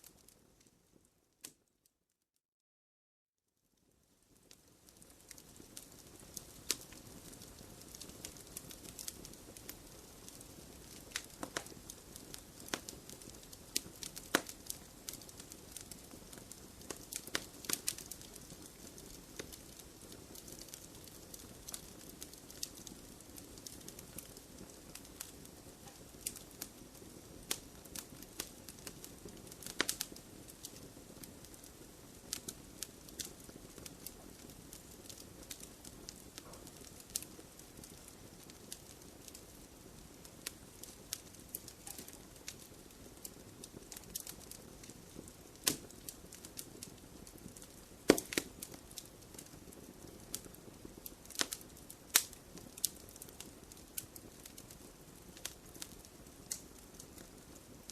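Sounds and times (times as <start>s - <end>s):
wood fire crackling and popping: 0.0s - 1.7s, 4.0s - 57.9s.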